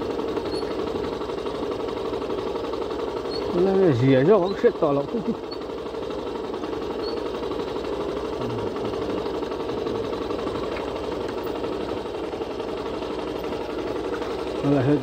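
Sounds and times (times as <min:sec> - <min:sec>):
motorcycle engine chugging: 0:00.0 - 0:15.0.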